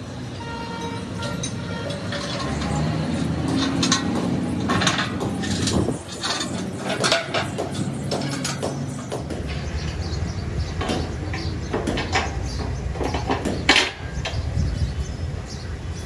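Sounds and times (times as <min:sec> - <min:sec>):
steady mechanical hum: 0:00.0 - 0:16.0
steel bolts clanking on metal: 0:00.5 - 0:14.4.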